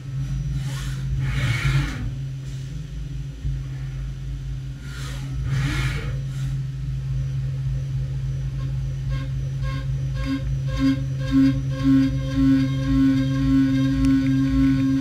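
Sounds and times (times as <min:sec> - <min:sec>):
machine hum: 0:00.0 - 0:15.0
machine whirring surges: 0:00.0 - 0:15.0.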